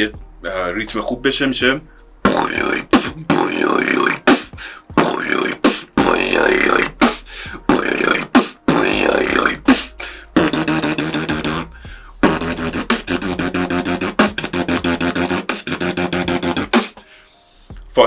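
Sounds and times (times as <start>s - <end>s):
beatbox bassy lip roll: 0.9s - 17.0s
beatbox snare sounds: 2.2s - 18.0s.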